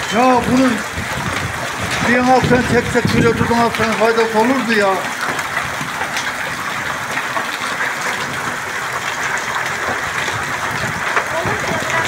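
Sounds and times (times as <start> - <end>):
hail pattering on ground: 0.0 - 12.0.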